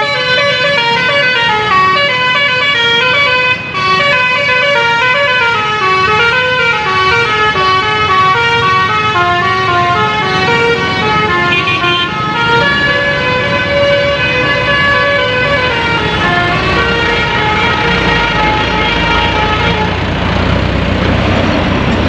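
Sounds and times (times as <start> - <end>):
bus horn playing tune: 0.0 - 20.1
traffic noise: 0.0 - 22.0.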